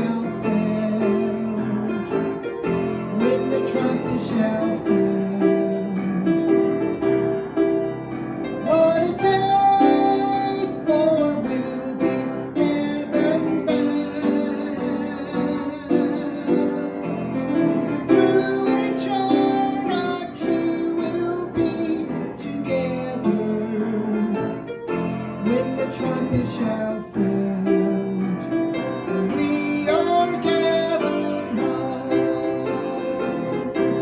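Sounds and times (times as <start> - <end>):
piano playing a slow hymn: 0.0 - 34.0.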